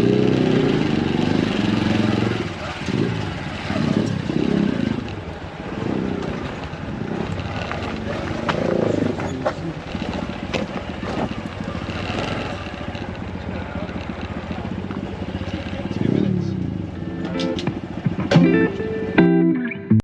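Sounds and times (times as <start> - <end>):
indistinct voices: 0.0 - 19.2
motorcycle engine idling: 0.0 - 19.2.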